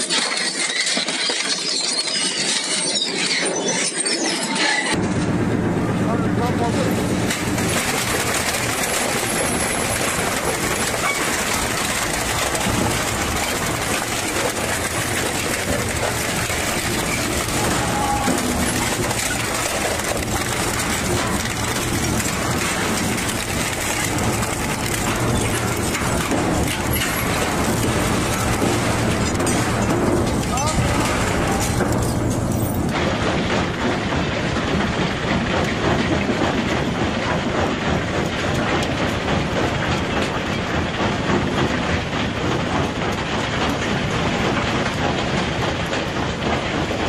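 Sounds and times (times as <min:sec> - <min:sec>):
heavy machine rattling and grinding: 0:00.0 - 0:47.0.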